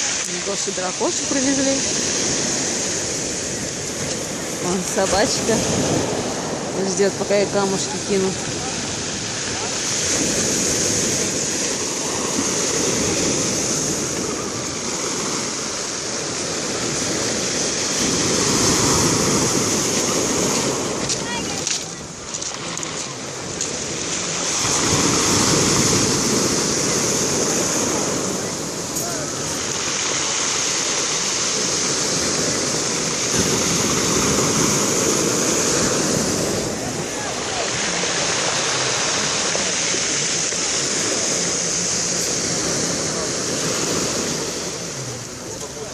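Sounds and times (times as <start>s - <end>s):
surf washing onto beach: 0.0s - 45.9s.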